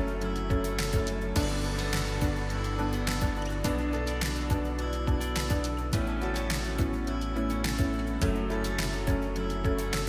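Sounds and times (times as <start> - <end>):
background music with guitar: 0.0 - 10.0.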